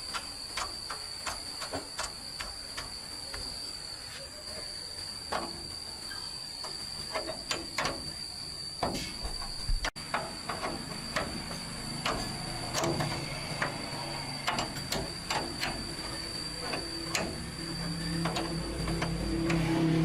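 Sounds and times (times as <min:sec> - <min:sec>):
steady high whine: 0:00.0 - 0:20.0.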